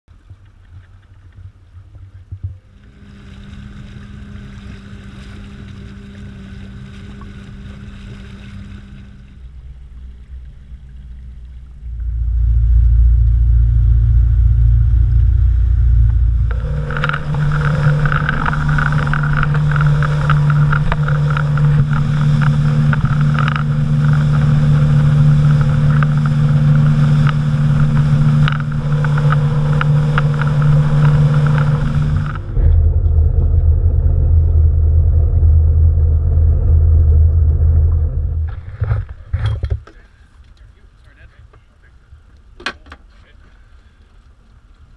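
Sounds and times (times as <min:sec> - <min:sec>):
water rushing and splashing: 0:00.1 - 0:41.2
outboard motor running: 0:01.6 - 0:41.4.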